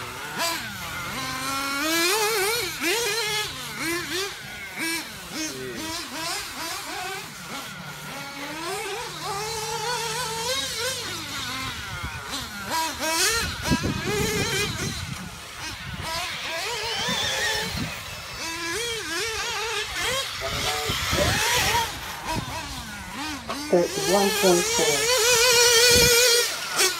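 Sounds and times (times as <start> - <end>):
rc car engines revving: 0.0 - 26.9.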